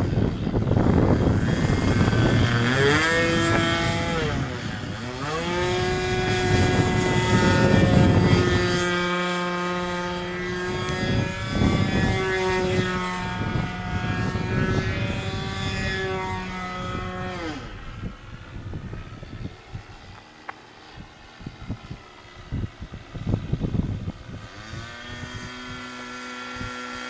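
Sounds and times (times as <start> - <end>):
model plane engine drone: 0.0 - 27.0.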